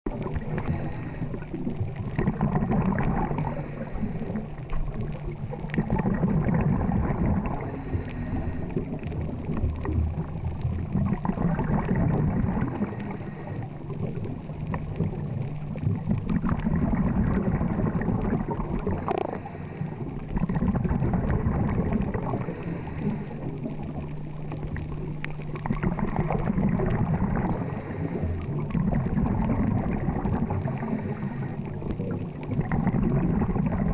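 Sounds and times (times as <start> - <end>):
underwater bubbles rushing and gurgling: 0.0 - 33.9
low steady hum: 0.1 - 33.9.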